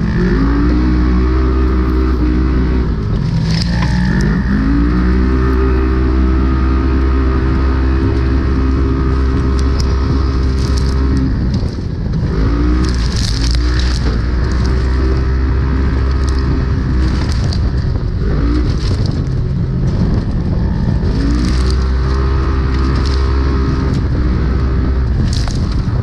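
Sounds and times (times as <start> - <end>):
engine running hard: 0.0 - 26.0
low rumble from rough course: 0.0 - 26.0.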